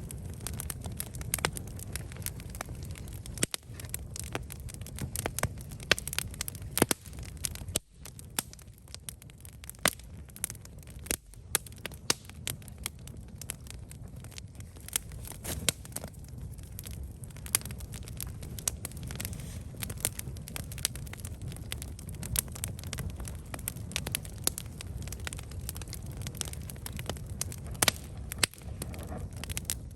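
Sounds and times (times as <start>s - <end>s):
low rumble of flame: 0.0s - 29.9s
wood crackling and popping: 0.0s - 29.9s.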